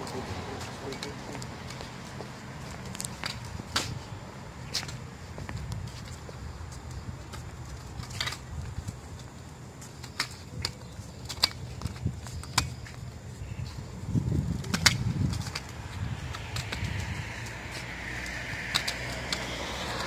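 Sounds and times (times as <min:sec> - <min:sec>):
scooter wheels rumbling on concrete: 0:00.0 - 0:20.0.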